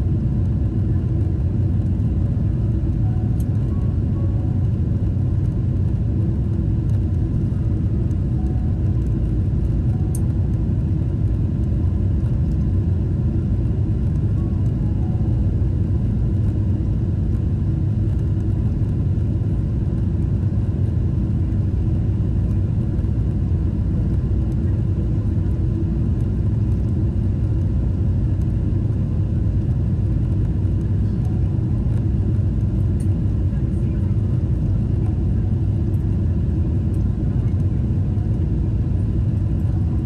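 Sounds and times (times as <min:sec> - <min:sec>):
aircraft cabin engine rumble: 0:00.0 - 0:40.0.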